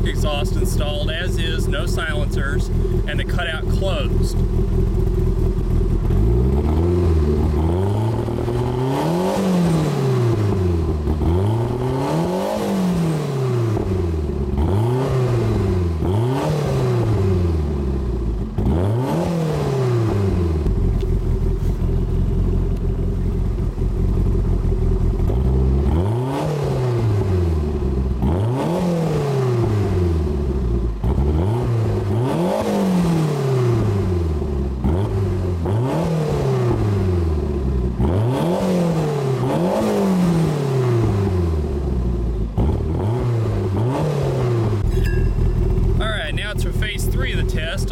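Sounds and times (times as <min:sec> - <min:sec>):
car engine revving and idling: 0:00.0 - 0:47.9.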